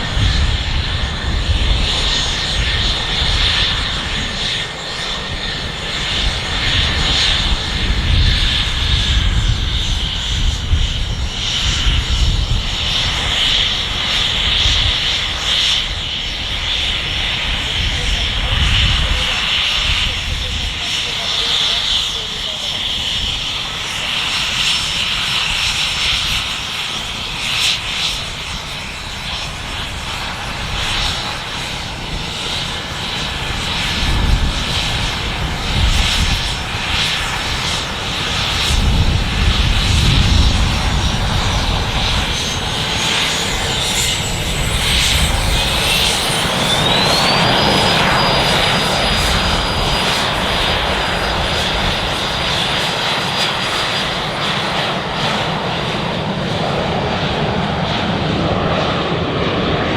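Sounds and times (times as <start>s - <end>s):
aircraft turbine engine running: 0.0s - 59.9s.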